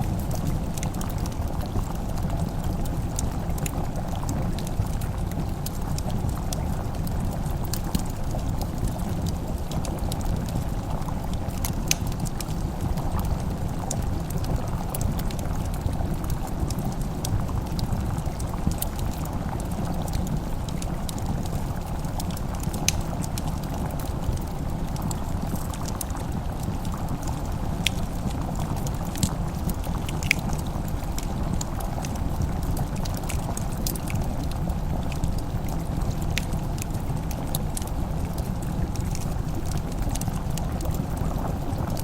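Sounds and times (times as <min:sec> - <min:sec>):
fire crackling in a fireplace: 0:00.0 - 0:42.0.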